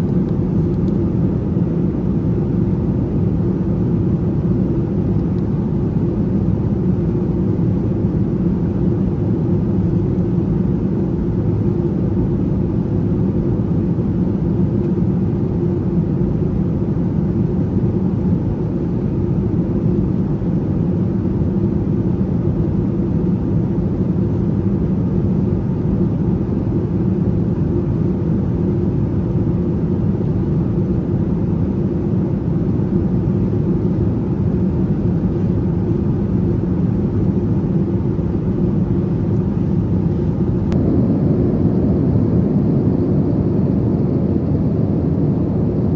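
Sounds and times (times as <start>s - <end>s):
airliner cabin drone: 0.0s - 45.9s.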